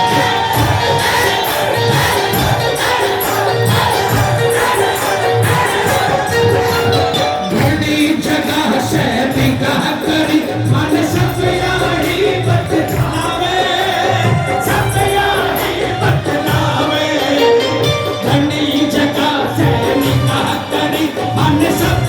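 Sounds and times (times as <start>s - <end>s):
hand percussion beat: 0.0s - 22.0s
voices singing devotional music: 0.0s - 22.0s.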